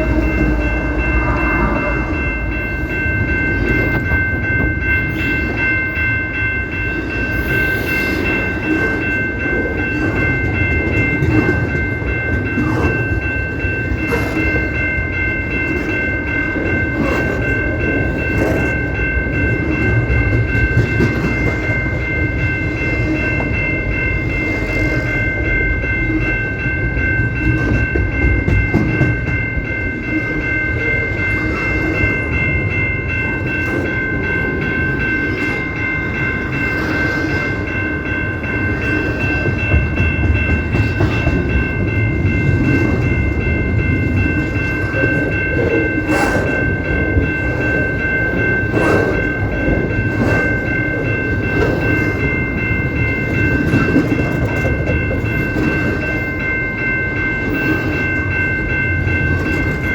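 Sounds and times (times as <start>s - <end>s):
train rumbling and clattering: 0.0s - 59.9s.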